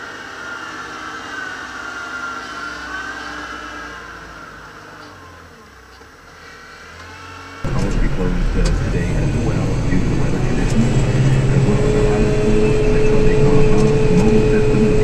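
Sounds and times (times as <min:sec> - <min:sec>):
tractor engine with high whine: 0:00.0 - 0:15.0.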